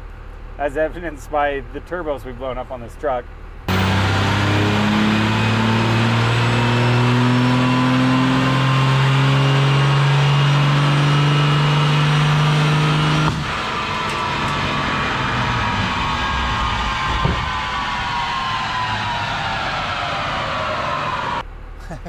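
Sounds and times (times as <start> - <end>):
diesel engine revving under load: 3.6 - 21.4.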